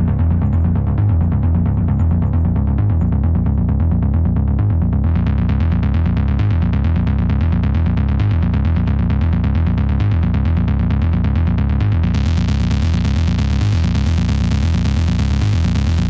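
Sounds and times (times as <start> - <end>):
pulsing synthesizer bass line: 0.0 - 16.0.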